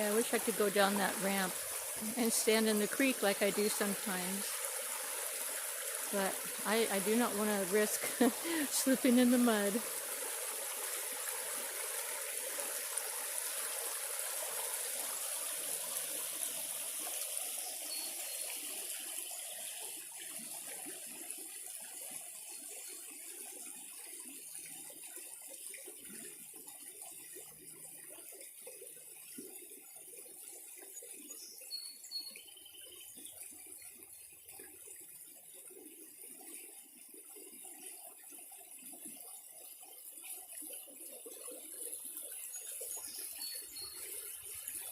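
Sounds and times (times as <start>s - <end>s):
creek water rushing: 0.0s - 31.4s, 32.9s - 44.9s.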